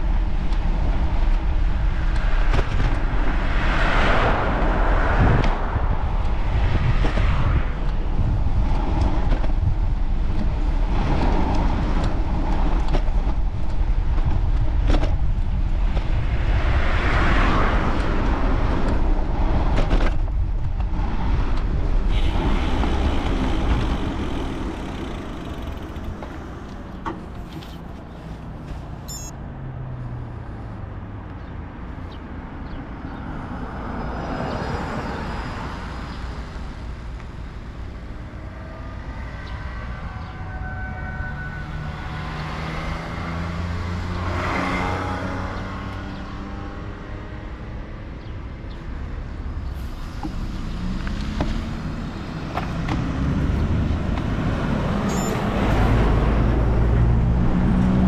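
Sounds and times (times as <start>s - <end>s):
traffic passing: 0.0s - 58.0s
vehicle engine hum: 0.0s - 58.0s.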